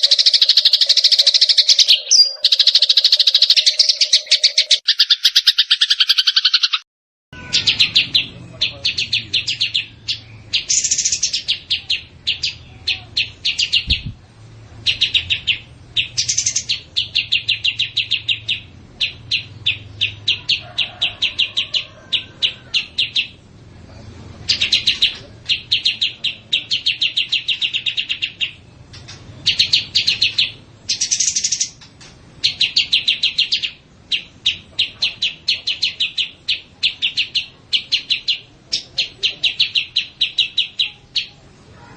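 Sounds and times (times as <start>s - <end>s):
songbirds chirping: 0.0s - 6.8s, 7.4s - 41.9s.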